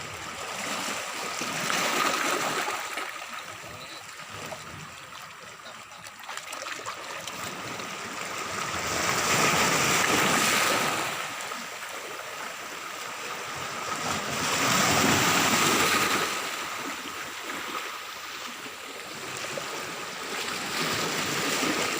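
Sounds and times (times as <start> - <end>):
sea waves washing onto beach: 0.0 - 21.9.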